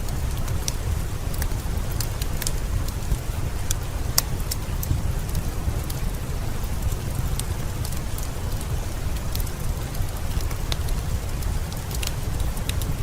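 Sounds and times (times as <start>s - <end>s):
heavy rain falling: 0.0s - 13.0s
wood fire crackling: 0.0s - 13.0s.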